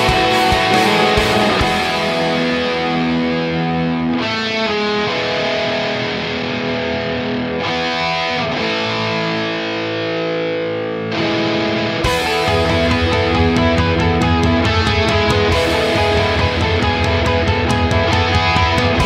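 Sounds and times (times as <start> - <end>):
distorted electric guitar chords: 0.0 - 19.0.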